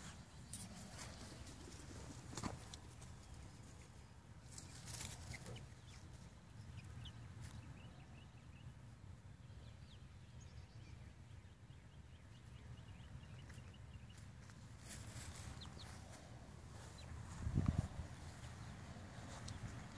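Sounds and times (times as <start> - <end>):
chickens peeping: 0.0 - 19.9.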